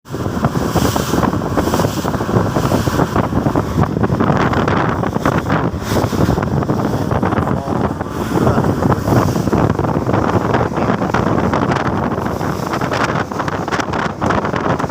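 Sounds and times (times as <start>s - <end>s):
storm wind buffeting microphone: 0.0s - 14.9s.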